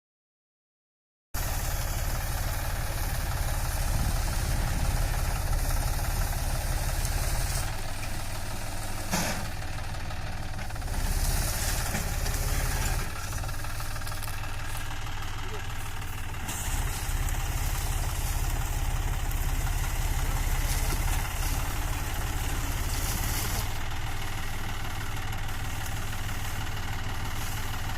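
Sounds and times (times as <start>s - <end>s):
tractor diesel engine chugging: 1.4s - 27.9s.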